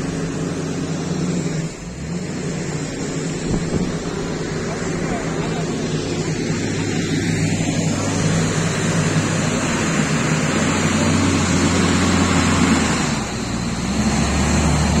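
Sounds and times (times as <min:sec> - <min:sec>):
broad rushing noise: 0:00.0 - 0:15.0
diesel engines droning: 0:00.0 - 0:15.0.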